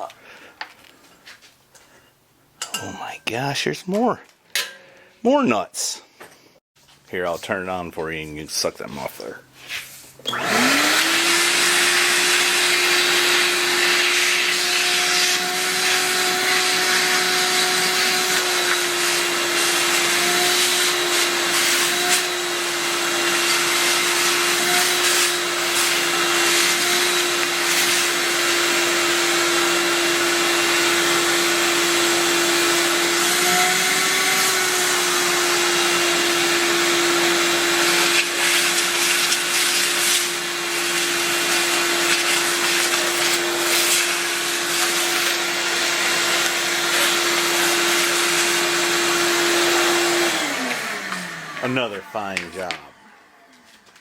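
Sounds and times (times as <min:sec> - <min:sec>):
vacuum cleaner running: 0:10.2 - 0:54.0.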